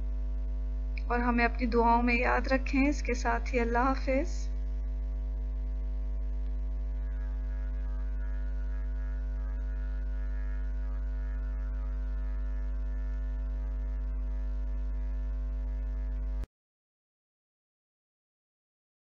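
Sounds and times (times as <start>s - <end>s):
electrical mains hum: 0.0s - 16.5s.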